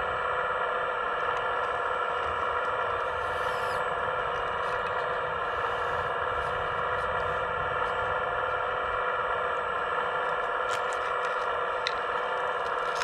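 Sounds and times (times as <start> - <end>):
model excavator whining drone: 0.0 - 13.0.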